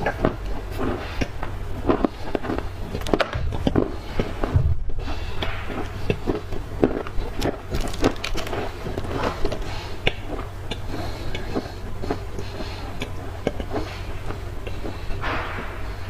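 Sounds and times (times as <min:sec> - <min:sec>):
crunching and chewing clay: 0:00.0 - 0:16.0
faint low hum: 0:00.0 - 0:16.0.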